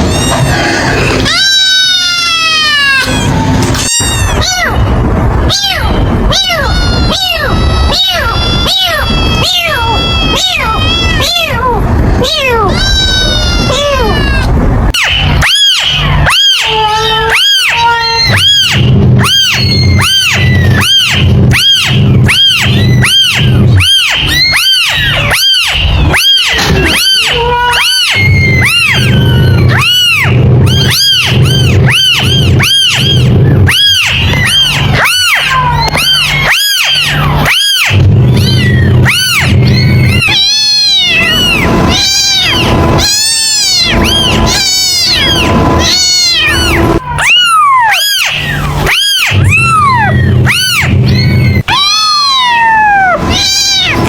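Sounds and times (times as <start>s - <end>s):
low rumble: 0.0s - 16.4s, 18.0s - 47.5s
kitten meowing: 0.0s - 54.0s
other kittens calling: 0.0s - 54.0s.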